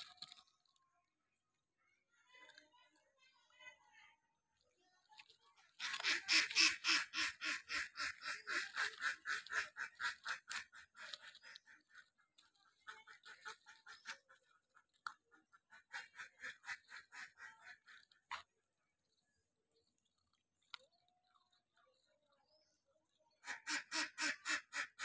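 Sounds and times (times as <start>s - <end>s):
puppies crunching cookies: 0.0s - 1.2s, 4.5s - 23.4s.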